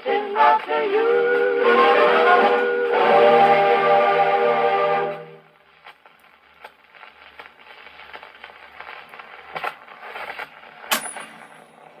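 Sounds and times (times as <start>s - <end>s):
record surface hiss and crackle: 0.0s - 12.0s.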